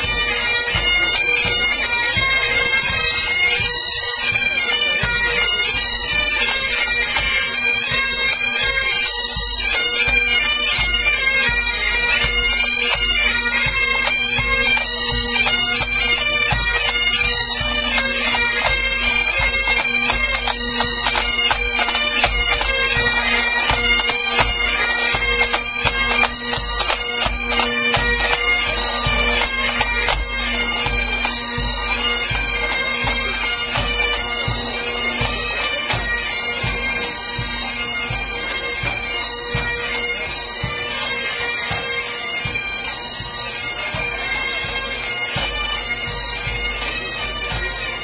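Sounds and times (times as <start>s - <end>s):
bagpipes playing a tune: 0.0s - 48.0s.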